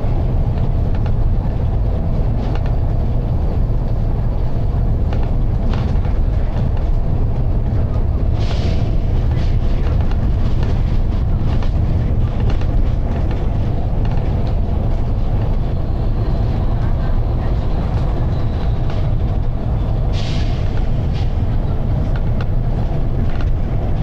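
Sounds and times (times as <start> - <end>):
bus engine rumble: 0.0 - 24.0.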